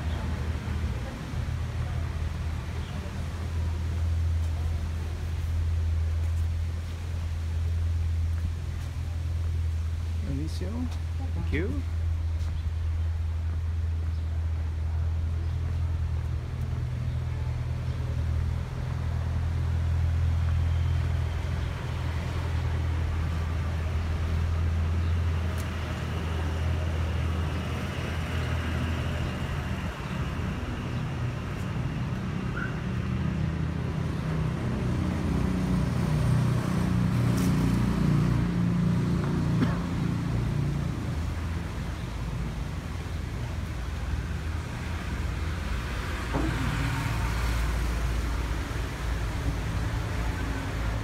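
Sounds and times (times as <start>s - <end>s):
low engine rumble: 0.0s - 51.0s
vehicles passing: 0.0s - 51.0s.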